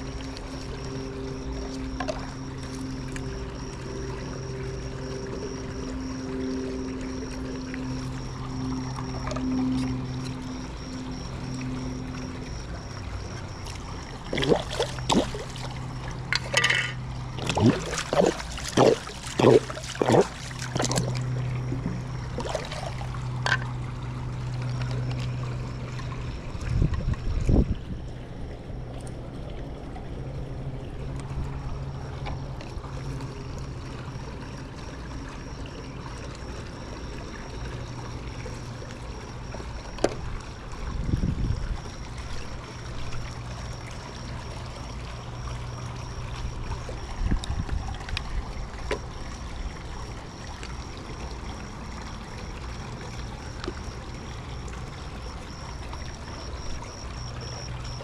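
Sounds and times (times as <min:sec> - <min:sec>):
steady motor hum: 0:00.0 - 0:58.0
water trickling: 0:00.0 - 0:58.0.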